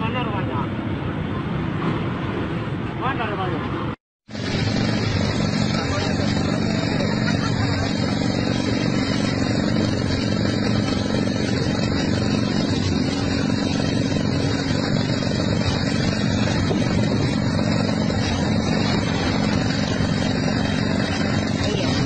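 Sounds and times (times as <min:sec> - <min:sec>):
vehicle engine droning: 0:00.0 - 0:22.0.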